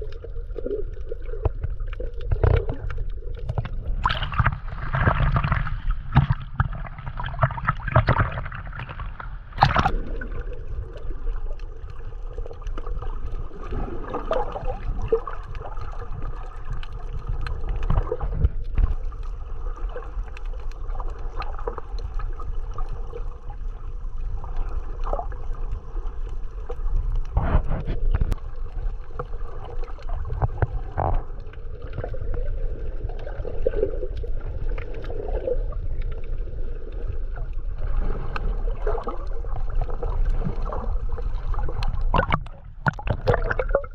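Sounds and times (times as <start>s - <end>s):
underwater sloshing and gurgling: 0.0s - 43.9s
water splashing: 0.0s - 43.9s.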